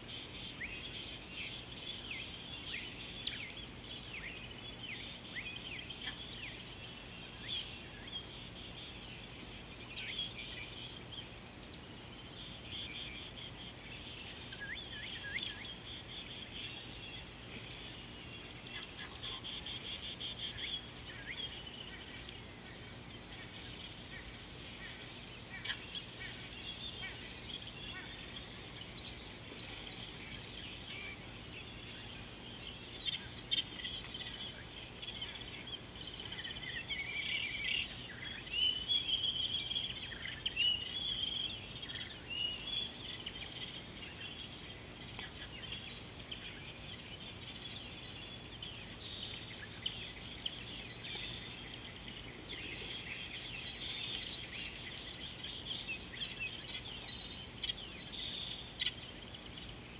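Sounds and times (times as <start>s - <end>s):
wild birds chirping: 0.0s - 59.9s.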